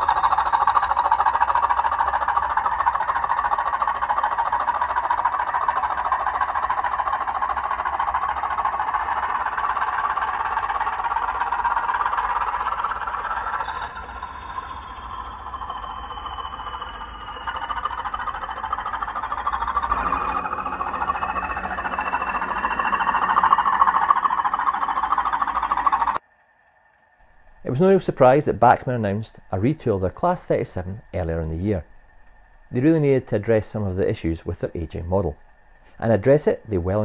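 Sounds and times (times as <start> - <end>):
model train wheels rattling: 0.0 - 26.2, 27.3 - 37.0
thin high whine: 0.0 - 37.0.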